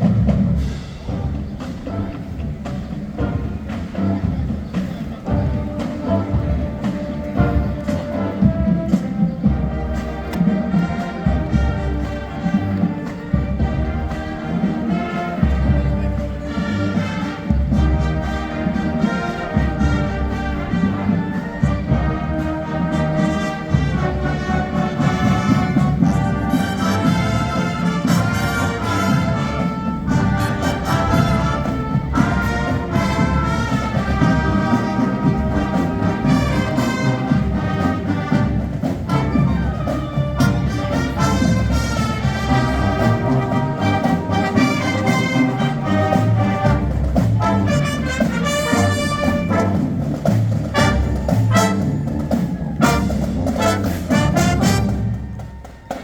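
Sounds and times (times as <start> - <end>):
school band playing: 0.0 - 56.0
trombones and trumpets: 0.0 - 56.0.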